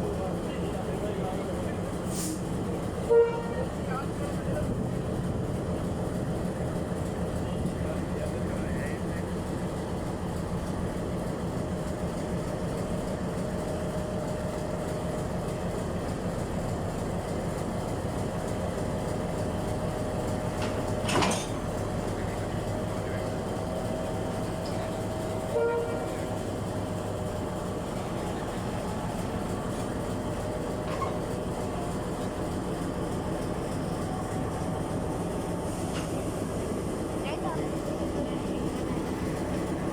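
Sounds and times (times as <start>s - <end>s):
diesel locomotive engine humming: 0.0s - 39.9s.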